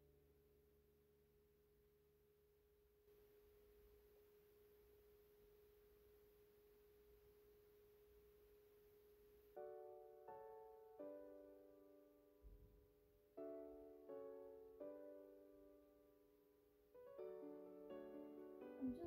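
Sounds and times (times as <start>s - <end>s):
faint sustained music tone: 0.0s - 19.0s.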